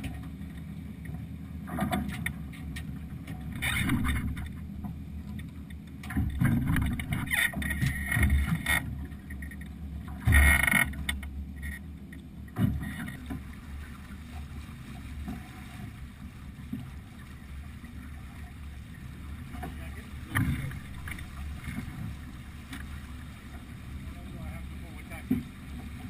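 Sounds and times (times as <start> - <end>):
water washing along hull: 0.0 - 26.0.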